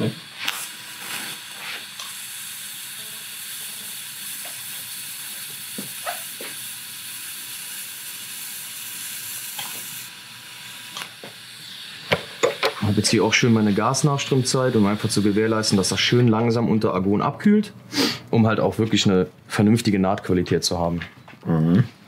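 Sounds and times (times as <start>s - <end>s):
welding arc hissing: 0.0s - 18.4s
gas flow hiss: 0.0s - 20.0s.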